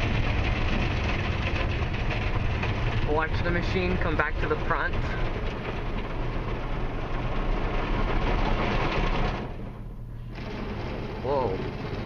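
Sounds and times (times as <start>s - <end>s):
low rumble of wash machinery: 0.0s - 12.0s.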